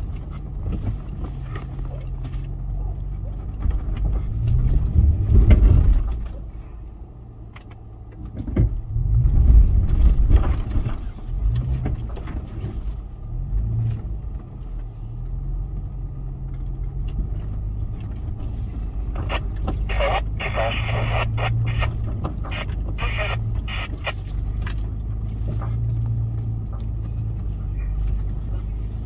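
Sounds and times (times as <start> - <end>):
off-road vehicle engine revving: 0.0 - 6.6, 8.6 - 29.0.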